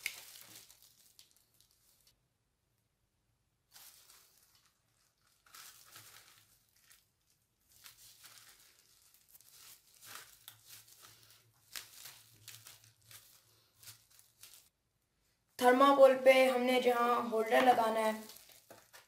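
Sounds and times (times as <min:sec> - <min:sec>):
plastic gloves crinkling: 0:00.0 - 0:02.2, 0:03.6 - 0:19.0.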